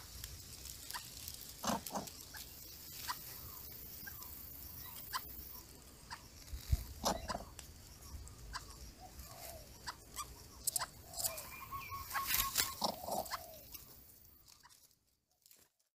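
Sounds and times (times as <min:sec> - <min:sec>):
bird calls and squeaks: 0:00.9 - 0:14.9.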